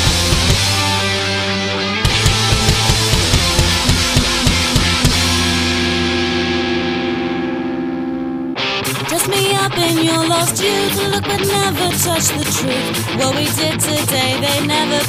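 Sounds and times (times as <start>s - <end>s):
hard rock music: 0.0s - 15.0s.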